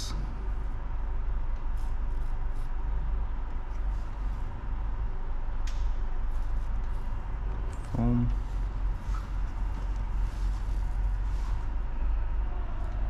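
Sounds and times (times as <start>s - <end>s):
car engine idling rumble: 0.0s - 13.0s.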